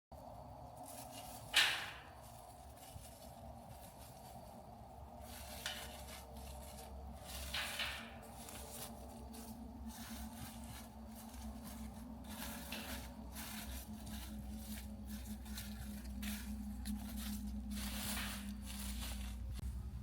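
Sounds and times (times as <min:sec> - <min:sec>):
low steady hum: 0:00.2 - 0:20.0
leaves rustling and tearing: 0:00.8 - 0:19.7.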